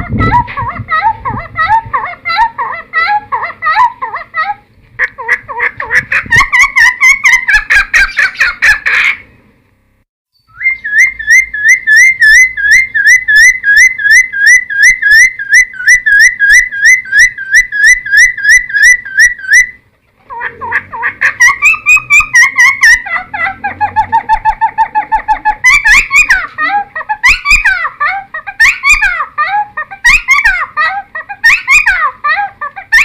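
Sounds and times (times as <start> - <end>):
bird singing chattering phrases: 0.0 - 9.3, 10.4 - 33.0.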